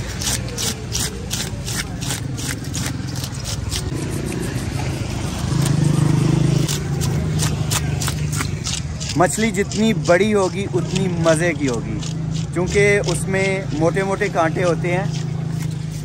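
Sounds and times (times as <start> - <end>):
engine humming: 0.0 - 16.0
knife scraping fish: 0.0 - 16.0.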